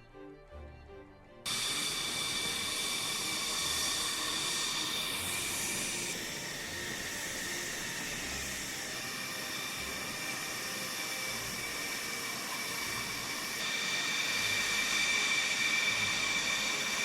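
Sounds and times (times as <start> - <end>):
jet engine whining: 1.5 - 17.0
rushing hiss: 1.5 - 17.0.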